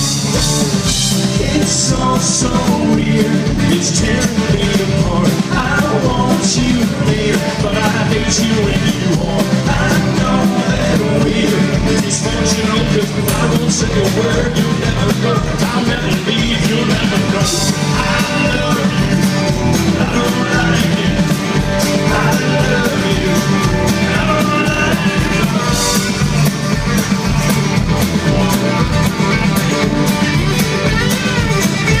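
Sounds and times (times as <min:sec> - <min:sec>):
live country-rock band playing: 0:00.0 - 0:32.0.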